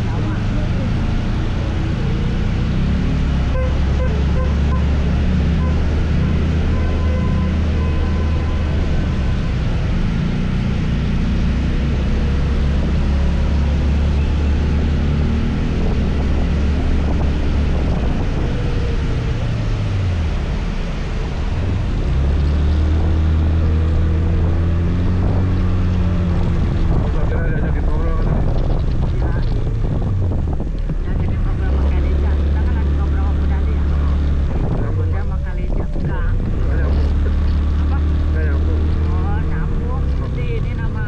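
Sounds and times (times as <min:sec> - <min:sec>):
road noise: 0:00.0 - 0:41.0
wind over microphone: 0:04.8 - 0:41.0.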